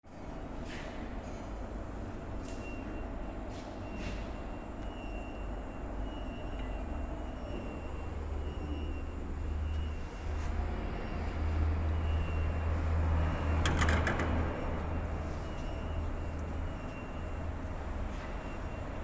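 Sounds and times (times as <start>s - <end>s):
machinery low hum: 0.1s - 19.0s.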